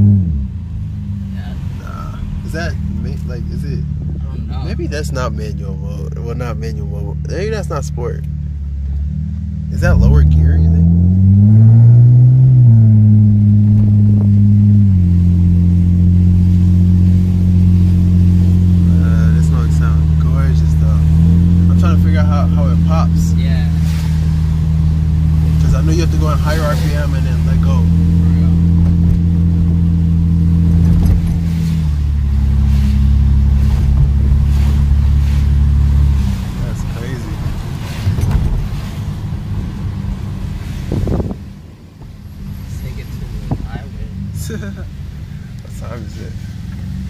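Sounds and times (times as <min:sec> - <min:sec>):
loud car engine exhaust drone: 0:00.0 - 0:47.0.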